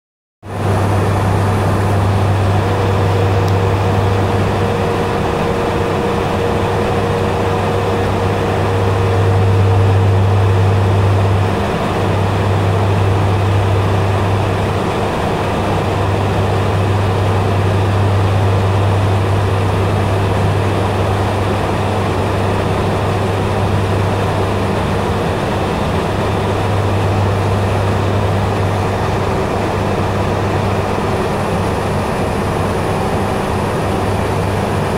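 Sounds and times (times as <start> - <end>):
engine and airflow noise: 0.4 - 34.9
turboprop cabin drone: 0.4 - 34.9.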